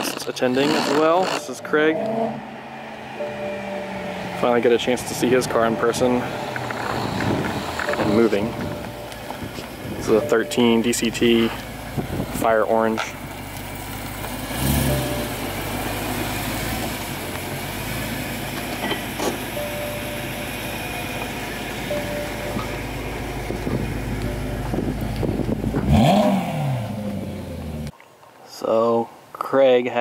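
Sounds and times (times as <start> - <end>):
car engine idling: 0.2 - 27.9.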